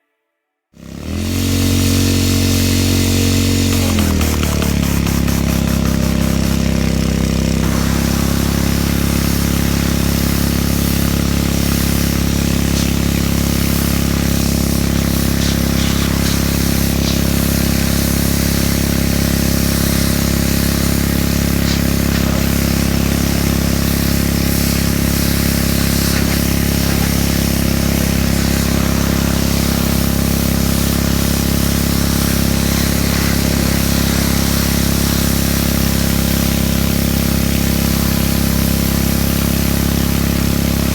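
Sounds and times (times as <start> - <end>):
pressure washer motor hum: 0.8 - 40.9
water spraying hiss: 1.0 - 40.9.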